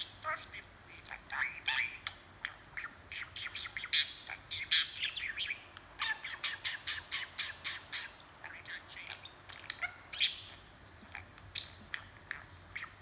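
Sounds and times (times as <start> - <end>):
budgerigar chattering: 0.0 - 13.0.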